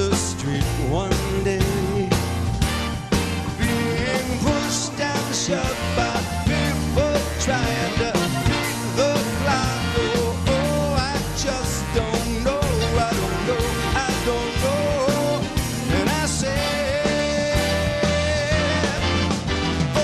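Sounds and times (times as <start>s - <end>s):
rock song with singing: 0.0s - 20.0s.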